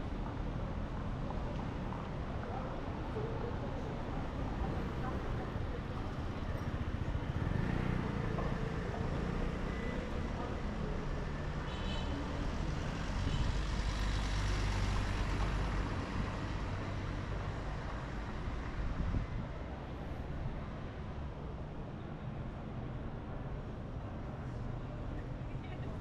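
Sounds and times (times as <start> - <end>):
traffic engine and tyre rumble: 0.0 - 26.0.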